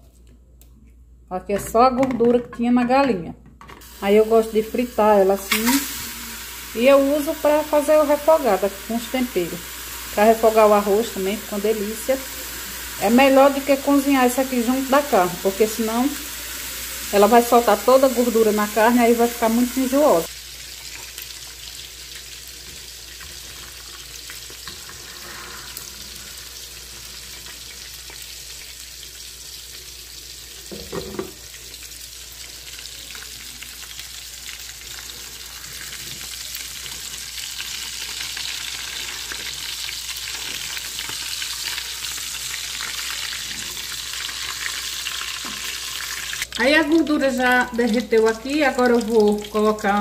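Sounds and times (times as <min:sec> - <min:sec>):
fat sizzling in a frying pan: 0:03.8 - 0:50.0.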